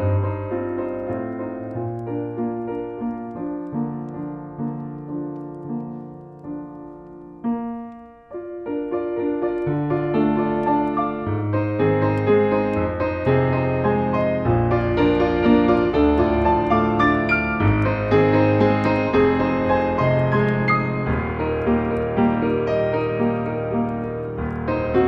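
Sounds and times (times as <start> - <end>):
slow piano melody: 0.0 - 25.0.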